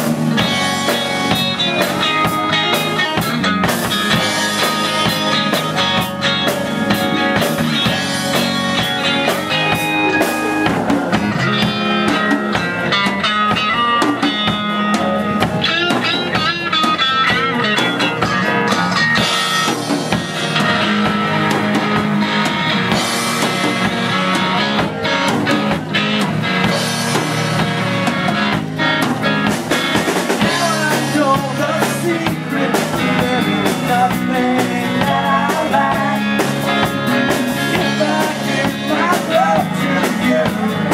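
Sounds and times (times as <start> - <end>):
acoustic guitar: 0.0 - 40.9
drum kit: 0.0 - 40.9
electric guitar: 0.0 - 40.9.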